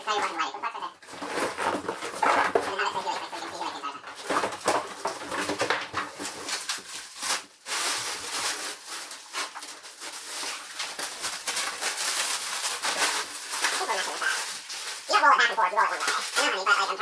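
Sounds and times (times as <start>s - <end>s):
plastic wrapping rustling: 0.0s - 17.0s.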